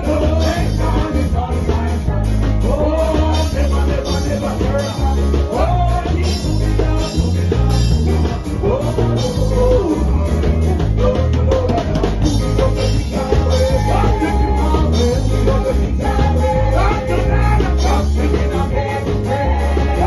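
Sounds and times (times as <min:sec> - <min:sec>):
electric guitars: 0:00.0 - 0:20.0
heavy bass line: 0:00.0 - 0:20.0
singers on microphones: 0:00.0 - 0:20.0.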